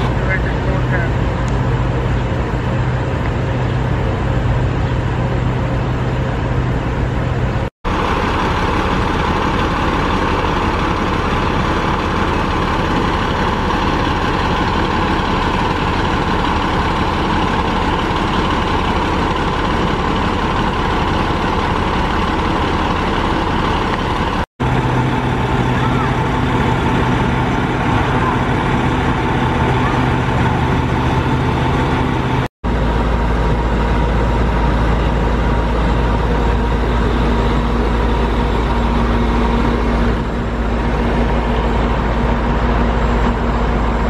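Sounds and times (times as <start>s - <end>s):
diesel engines running: 0.0s - 44.0s
steady higher hum: 0.0s - 44.0s.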